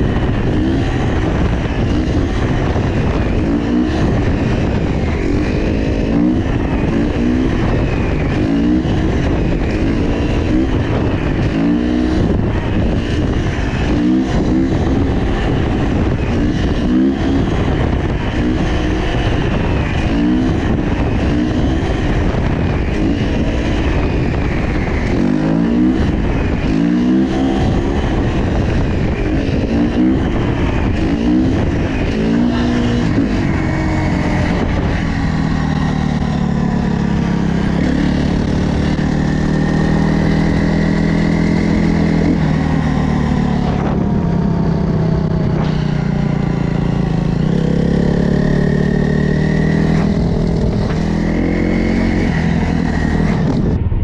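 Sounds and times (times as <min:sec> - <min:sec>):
dirt bike engines revving: 0:00.0 - 0:53.8
wind on microphone: 0:00.0 - 0:54.0.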